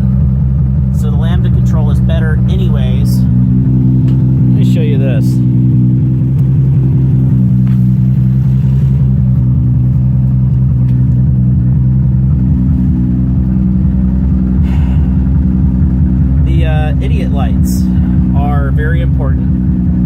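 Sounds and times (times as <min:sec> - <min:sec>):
race car engine idling: 0:00.0 - 0:20.0.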